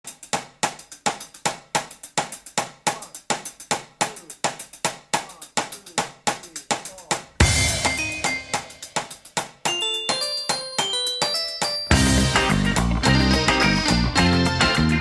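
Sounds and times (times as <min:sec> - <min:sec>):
dance drum beat: 0:00.1 - 0:14.9.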